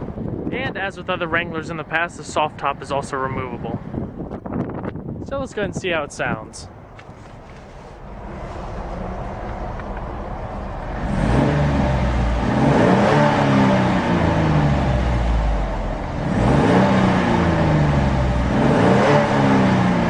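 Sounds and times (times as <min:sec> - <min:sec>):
car engine idling and revving: 0:00.0 - 0:05.1, 0:06.7 - 0:20.0.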